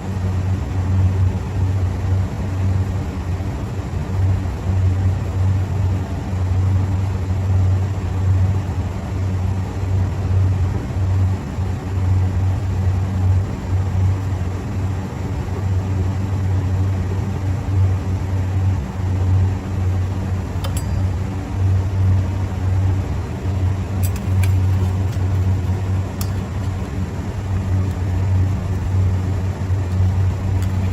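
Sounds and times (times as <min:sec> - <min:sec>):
low machine hum: 0:00.0 - 0:30.9.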